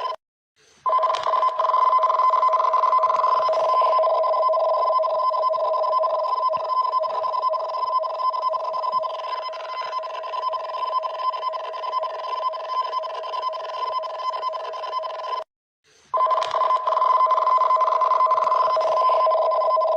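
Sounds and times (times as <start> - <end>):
two-tone warning alarm: 0.9 - 15.4, 16.2 - 19.9.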